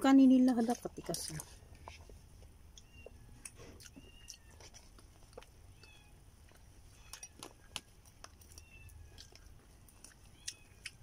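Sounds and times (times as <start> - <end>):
chewing: 0.5 - 11.0.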